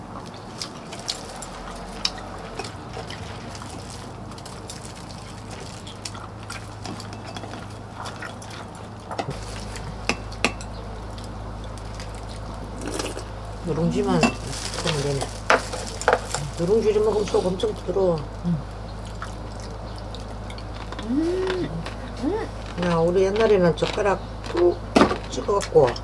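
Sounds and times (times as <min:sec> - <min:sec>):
utensils clinking against bowls: 0:00.0 - 0:18.4, 0:19.0 - 0:26.0
soft liquid sounds: 0:00.0 - 0:24.6
low steady hum: 0:00.0 - 0:26.0.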